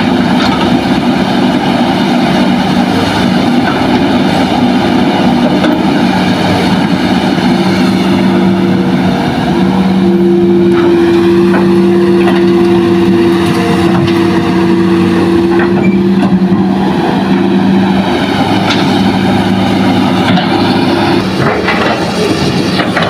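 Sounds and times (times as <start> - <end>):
excavator diesel engine droning: 0.0 - 23.0.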